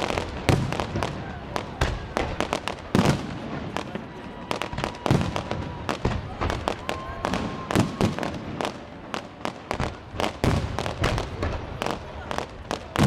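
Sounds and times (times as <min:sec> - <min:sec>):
deep firework booms: 0:00.0 - 0:13.0
fireworks bangs and crackles: 0:00.0 - 0:13.0.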